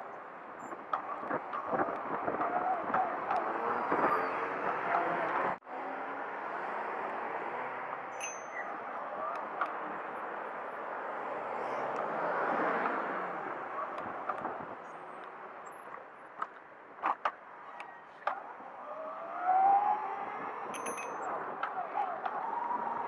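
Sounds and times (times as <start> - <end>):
passing cars: 0.0 - 23.0.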